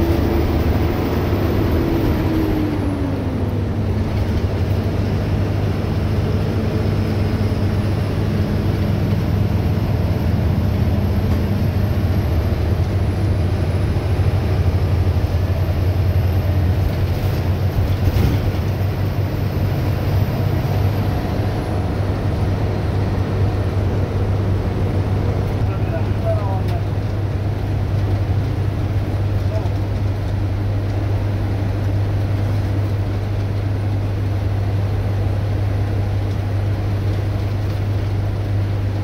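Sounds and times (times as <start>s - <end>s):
bus engine droning: 0.0s - 39.0s
road noise: 0.0s - 39.0s.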